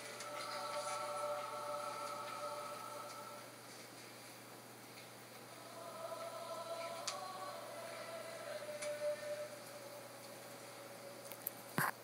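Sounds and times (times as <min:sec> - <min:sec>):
mixed choir holding a chord: 0:00.0 - 0:03.7, 0:05.5 - 0:11.7.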